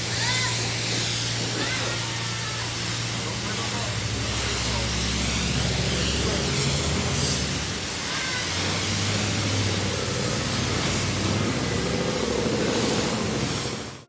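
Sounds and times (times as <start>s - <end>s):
pressure washer spray hissing: 0.0s - 14.0s.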